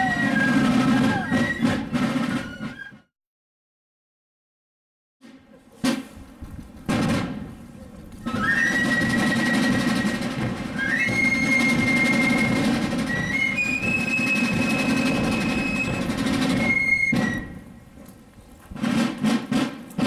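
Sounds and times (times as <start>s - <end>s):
drums: 0.0s - 3.1s, 5.2s - 20.0s.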